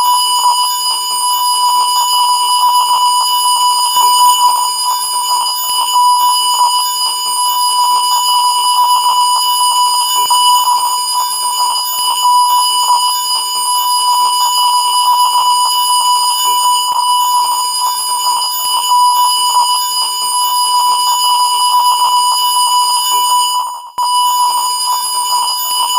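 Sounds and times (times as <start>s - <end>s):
continuous test tone beep: 0.0s - 25.9s.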